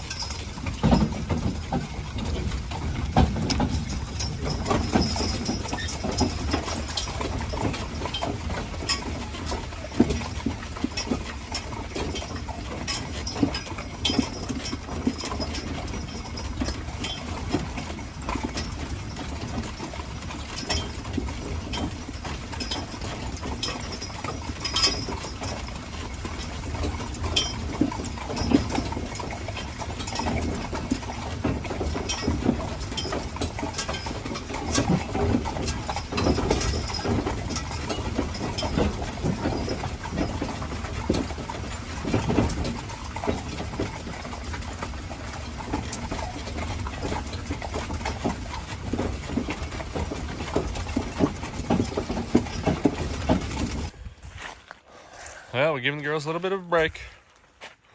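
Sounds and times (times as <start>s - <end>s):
horse hooves clip-clopping on road: 0.0s - 54.8s
wagon wheels rumbling: 0.0s - 57.9s.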